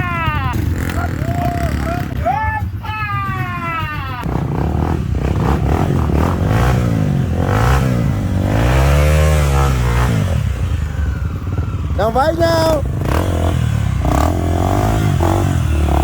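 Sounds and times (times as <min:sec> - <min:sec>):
motorcycle engine revving: 0:00.0 - 0:02.4, 0:04.2 - 0:16.0.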